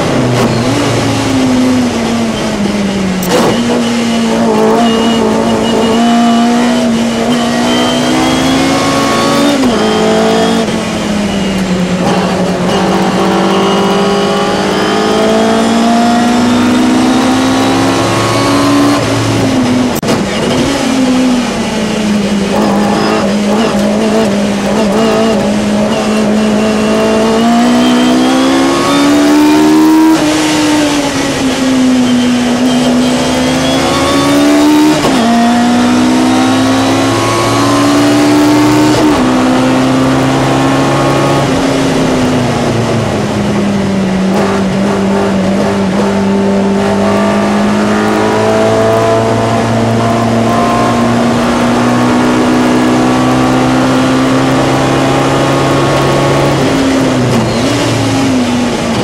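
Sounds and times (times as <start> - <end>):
race car engine revving high: 0.0 - 59.0.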